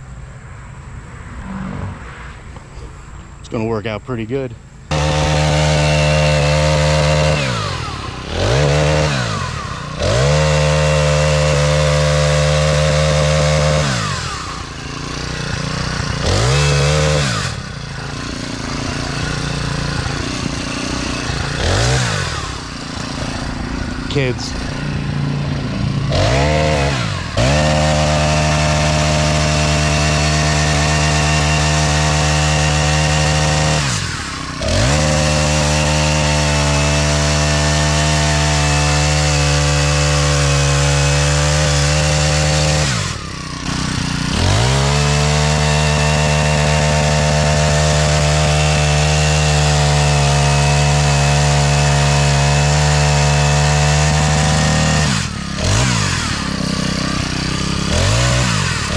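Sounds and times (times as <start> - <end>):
chainsaw cutting wood: 4.9 - 58.9.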